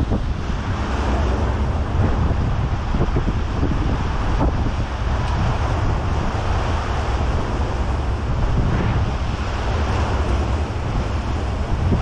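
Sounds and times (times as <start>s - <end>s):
boat engine rumble: 0.0s - 12.0s
water rushing past hull: 0.0s - 12.0s
wind buffeting microphone: 0.0s - 12.0s.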